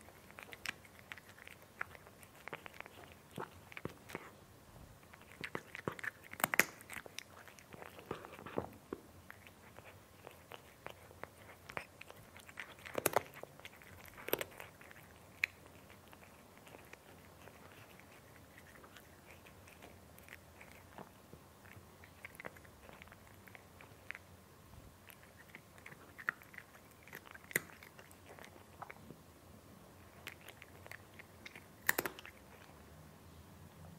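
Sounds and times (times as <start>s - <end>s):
cat chewing crunchy food: 0.0s - 4.4s, 5.0s - 29.2s, 30.0s - 32.9s.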